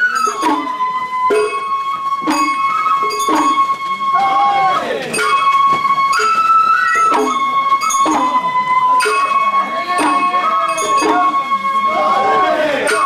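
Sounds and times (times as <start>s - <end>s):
bamboo flute: 0.0s - 13.0s
percussion strikes: 0.0s - 13.0s.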